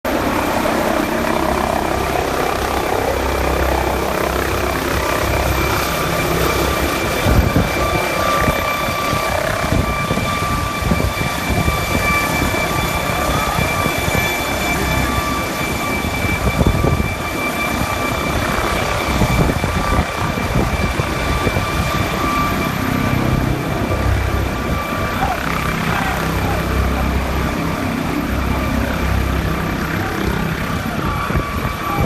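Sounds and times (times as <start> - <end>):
helicopter rotor noise: 0.0 - 32.0
helicopter turbine whine: 0.0 - 32.0
rapid low rotor beating: 0.1 - 32.0.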